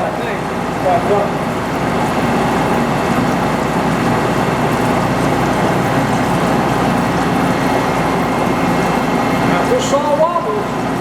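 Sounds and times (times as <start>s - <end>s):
metal lathe running: 0.0s - 11.0s.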